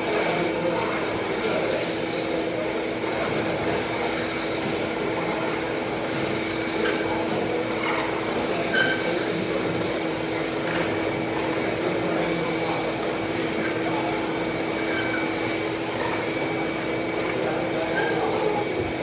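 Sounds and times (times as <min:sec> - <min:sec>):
woodshop machine running: 0:00.0 - 0:19.0.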